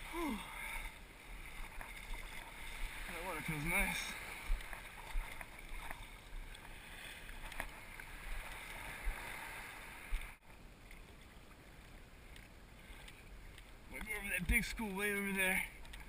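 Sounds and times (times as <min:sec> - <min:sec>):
water washing against kayak hull: 0:00.0 - 0:16.0.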